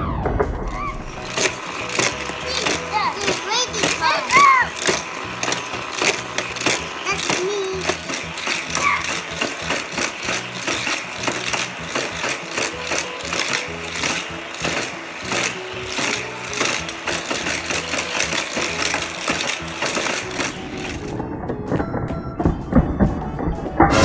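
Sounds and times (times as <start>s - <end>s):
music-like sound: 0.0s - 24.0s
motorized toy track booster whirring: 0.6s - 21.2s
toy cars clattering on plastic track: 0.6s - 21.2s.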